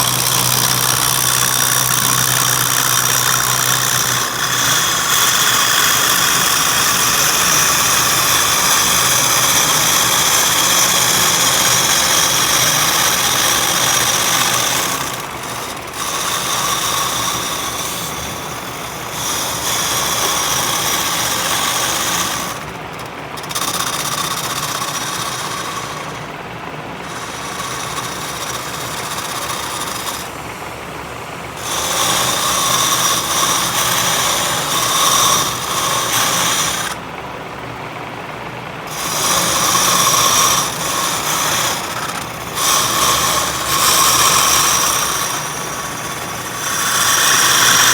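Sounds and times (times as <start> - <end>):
motor running with high whine: 0.0 - 47.9.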